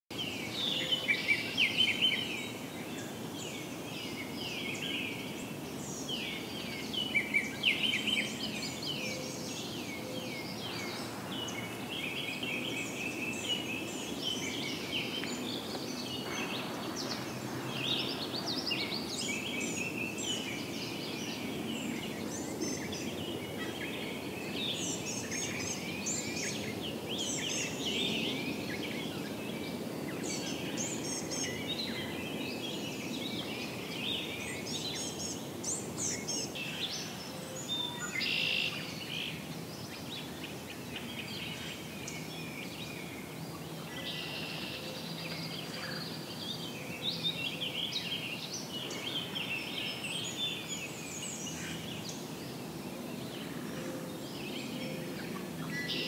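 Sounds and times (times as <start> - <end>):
low background noise: 0.1 - 56.0
songbirds chirping: 0.1 - 56.0.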